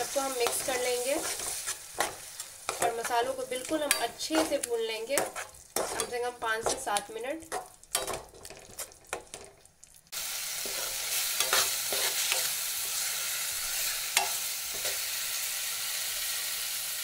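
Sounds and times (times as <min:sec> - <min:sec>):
steel spoon scraping a pan: 0:00.0 - 0:09.6, 0:10.6 - 0:16.4
vegetables sizzling in a pan: 0:00.0 - 0:17.0.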